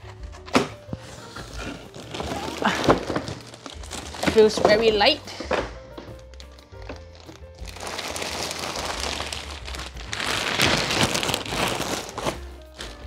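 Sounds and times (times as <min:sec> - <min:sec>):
packaging rustling and crinkling: 0:01.0 - 0:13.0.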